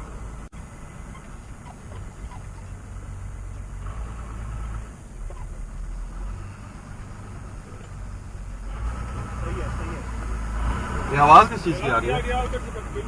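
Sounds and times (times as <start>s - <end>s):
engine idling low rumble: 0.0s - 13.0s.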